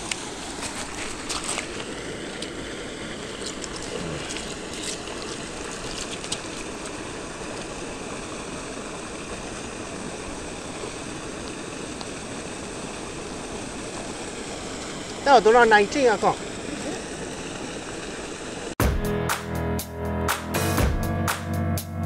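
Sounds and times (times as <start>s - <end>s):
flowing river water: 0.0s - 18.8s.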